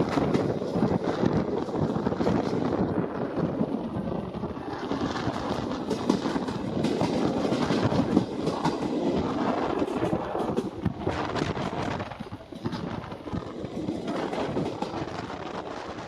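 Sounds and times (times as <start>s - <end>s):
train rumbling roar: 0.0s - 16.0s
wheels clattering over rails: 0.0s - 16.0s.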